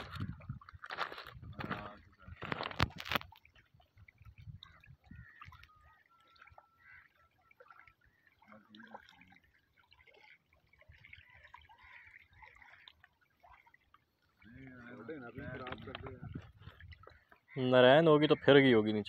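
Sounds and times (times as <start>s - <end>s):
water lapping at pebble shore: 0.0s - 18.8s.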